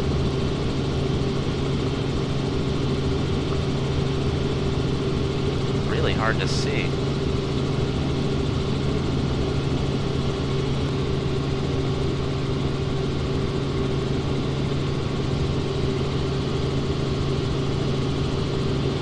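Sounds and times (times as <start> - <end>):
helicopter engine and rotors drone: 0.0 - 19.0.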